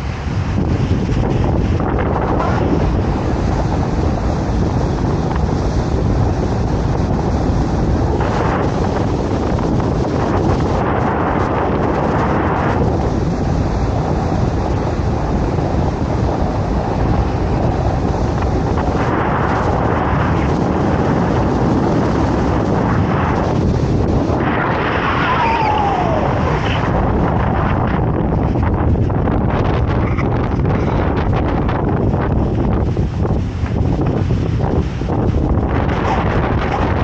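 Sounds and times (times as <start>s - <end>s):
boat engine: 0.0s - 37.0s
boat wake: 0.0s - 37.0s
wind buffeting microphone: 0.0s - 37.0s.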